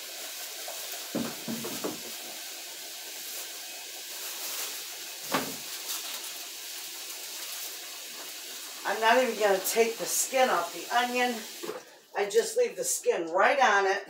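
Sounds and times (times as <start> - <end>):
room noise hiss: 0.0 - 12.9.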